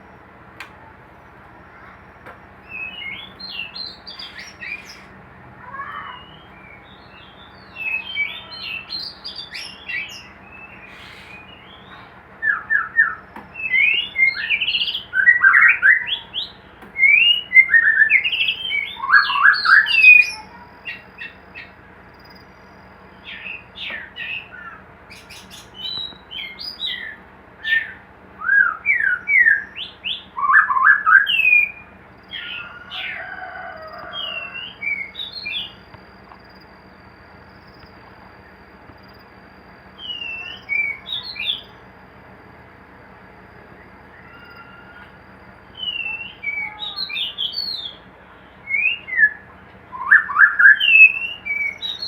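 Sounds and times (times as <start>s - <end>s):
bird singing varied whistles: 5.8s - 42.2s, 43.6s - 48.0s, 48.6s - 52.0s.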